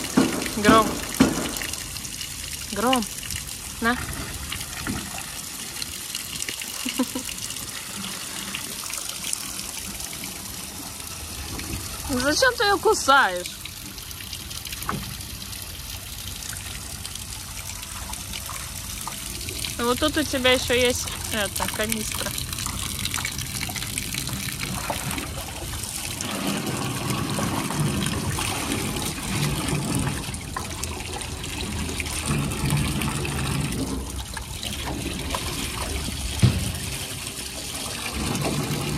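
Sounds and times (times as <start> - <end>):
water pouring into metal tub: 0.0 - 38.9
water splashing: 0.0 - 38.9.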